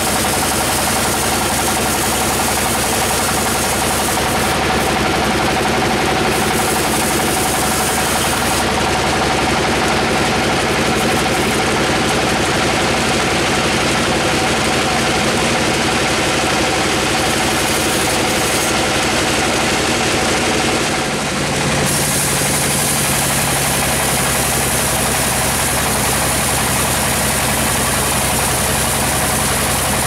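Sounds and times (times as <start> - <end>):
band saw cutting a log: 0.0 - 30.0.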